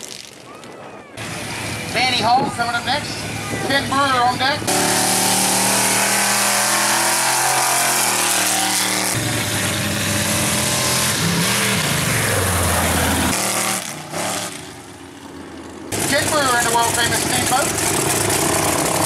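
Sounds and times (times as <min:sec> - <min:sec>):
truck engine revving hard: 0:01.2 - 0:14.9, 0:15.9 - 0:19.0.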